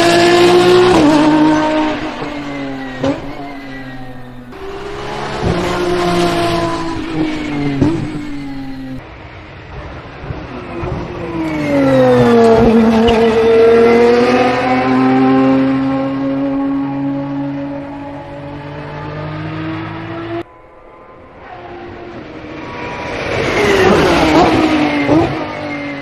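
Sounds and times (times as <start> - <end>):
racing car engine: 0.0 - 9.0, 9.7 - 26.0.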